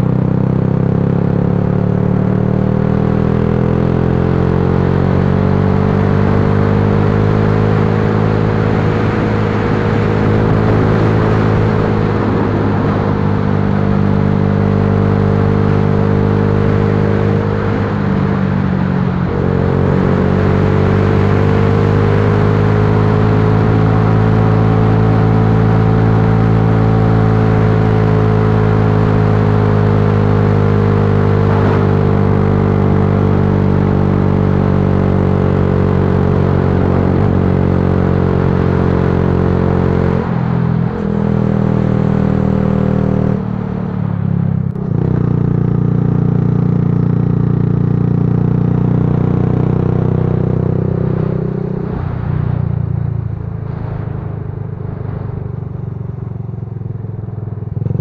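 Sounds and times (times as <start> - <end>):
motorcycle engine running: 0.0 - 58.0
steady rushing noise: 6.1 - 58.0.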